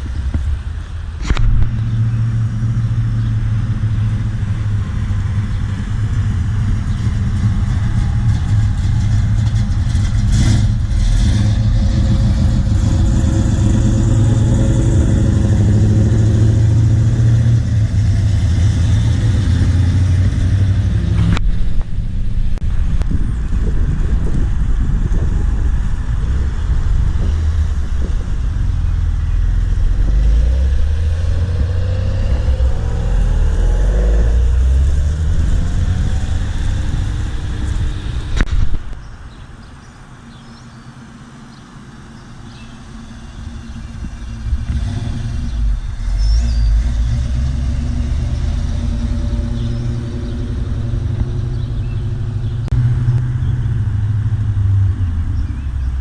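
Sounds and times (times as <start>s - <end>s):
car engines rumbling driving by: 0.0s - 56.0s.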